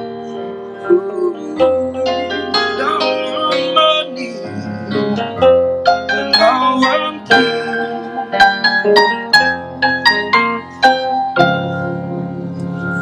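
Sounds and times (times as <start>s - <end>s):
keyboard notes: 0.0s - 13.0s
reggae band playing: 0.1s - 11.9s.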